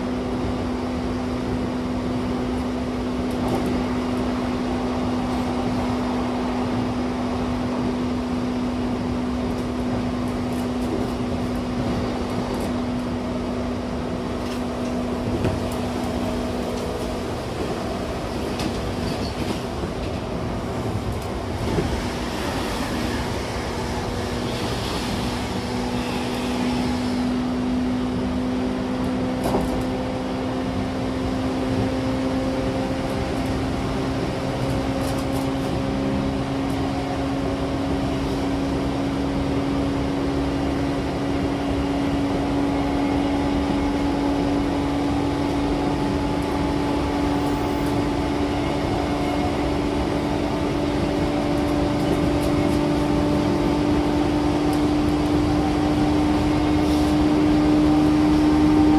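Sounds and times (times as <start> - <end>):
train rail and running noise: 0.0 - 58.9.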